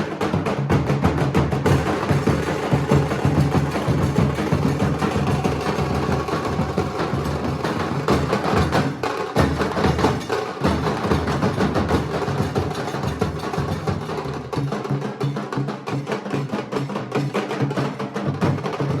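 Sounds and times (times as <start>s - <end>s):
barrel drums beating fast rhythm: 0.0s - 19.0s.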